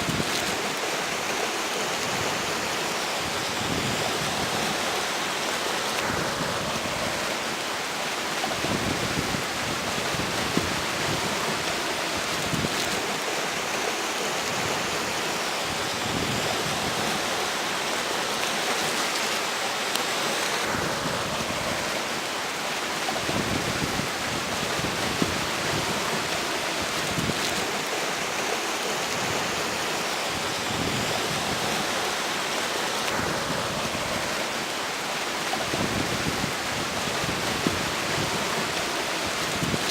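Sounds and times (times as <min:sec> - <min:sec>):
river flowing: 0:00.0 - 0:39.9
strong wind gusts: 0:00.0 - 0:39.9.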